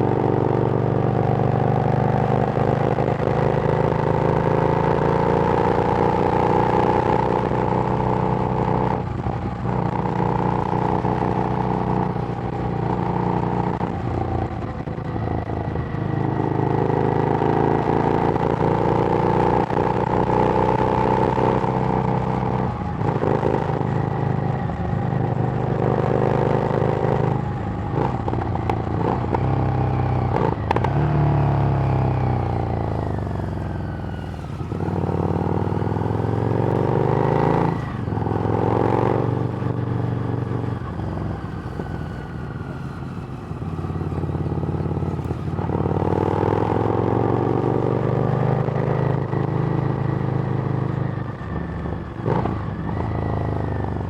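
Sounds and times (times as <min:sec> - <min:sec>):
motorcycle engine revving through gears: 0:00.0 - 0:54.0.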